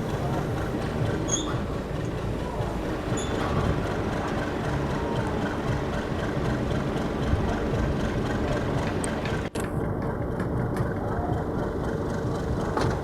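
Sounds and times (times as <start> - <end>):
engine running with dense rumble: 0.0 - 13.0.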